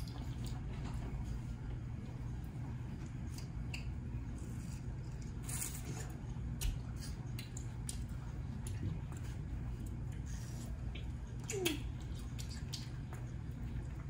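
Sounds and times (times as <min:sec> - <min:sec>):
person chewing juicy fruit: 0:02.2 - 0:14.0.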